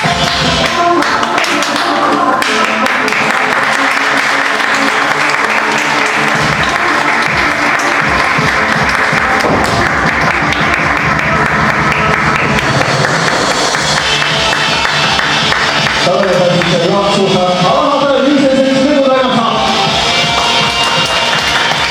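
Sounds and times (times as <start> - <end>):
crowd applauding: 0.0 - 17.2, 19.6 - 21.9
loud music over speakers: 0.0 - 21.9.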